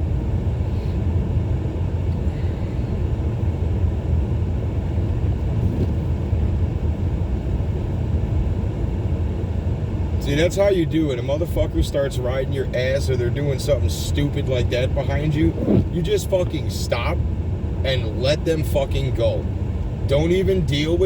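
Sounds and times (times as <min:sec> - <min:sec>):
car engine rumble inside cabin: 0:00.0 - 0:21.0.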